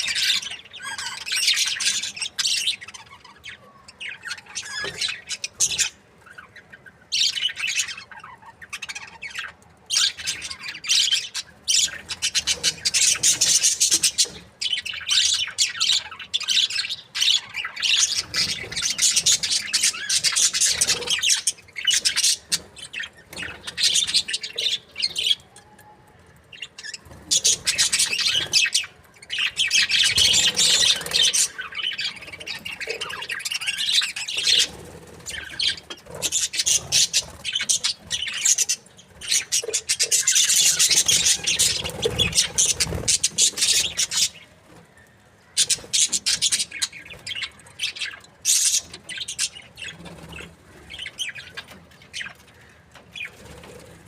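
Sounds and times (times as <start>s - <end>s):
budgerigars chattering and chirping: 0.0s - 25.5s, 26.5s - 54.0s.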